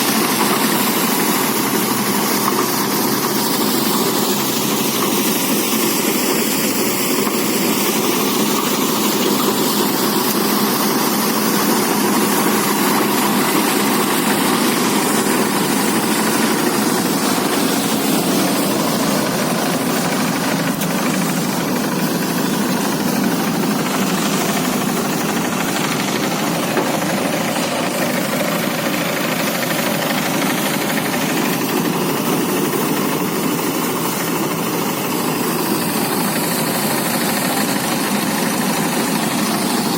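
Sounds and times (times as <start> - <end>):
threshing machine engine running: 0.0 - 39.9.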